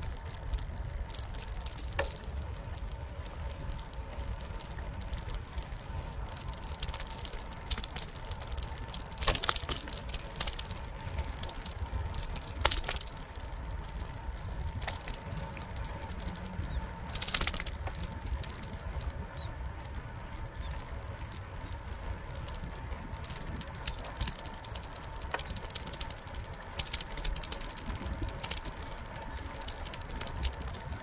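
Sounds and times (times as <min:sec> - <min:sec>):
bicycle rattling over bumps: 0:00.0 - 0:31.0
bicycle tyres rumbling: 0:00.0 - 0:31.0.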